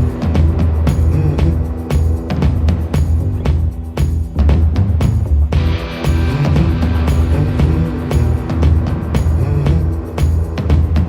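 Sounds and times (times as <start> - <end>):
music with bass and drum beat: 0.0 - 11.0.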